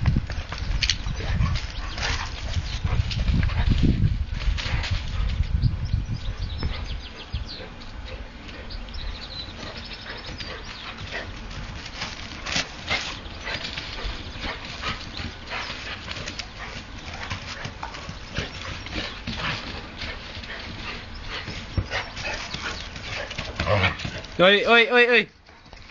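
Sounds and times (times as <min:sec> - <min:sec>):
dogs play-fighting scuffling: 0:00.0 - 0:05.5, 0:06.6 - 0:24.4, 0:25.5 - 0:25.9.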